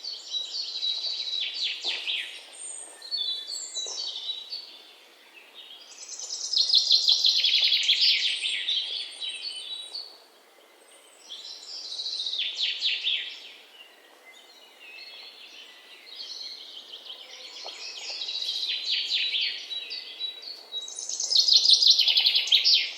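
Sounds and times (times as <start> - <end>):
songbirds chirping and trilling: 0.0 - 22.9.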